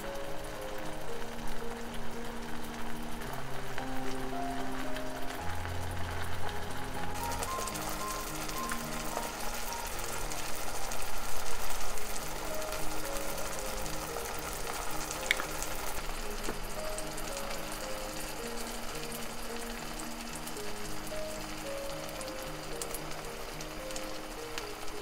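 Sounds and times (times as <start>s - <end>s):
food sizzling in a frying pan: 0.0s - 25.0s
gentle background tune: 0.0s - 25.0s.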